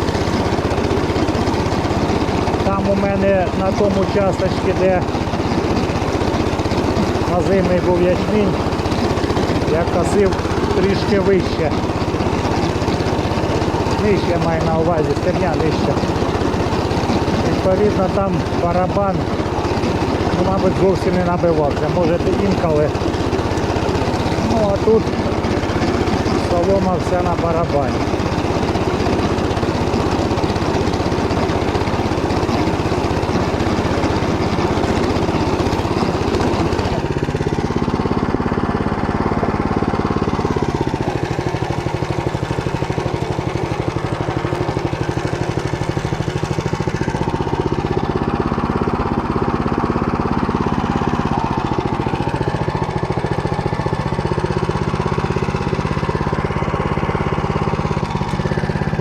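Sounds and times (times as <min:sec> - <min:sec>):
tiller cutting through stubble: 0:00.0 - 0:59.0
tractor engine under load: 0:00.0 - 0:59.0.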